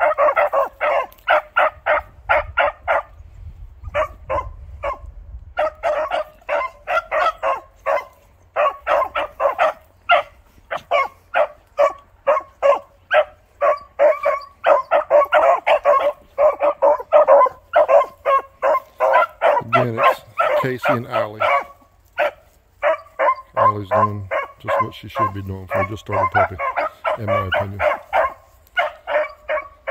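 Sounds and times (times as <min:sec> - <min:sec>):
hounds barking rapidly: 0:00.0 - 0:03.2, 0:03.8 - 0:29.9.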